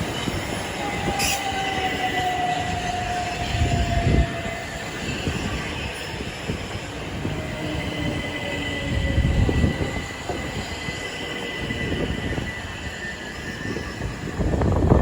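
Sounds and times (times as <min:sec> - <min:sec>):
train wheels rumbling and clattering: 0:00.0 - 0:15.0.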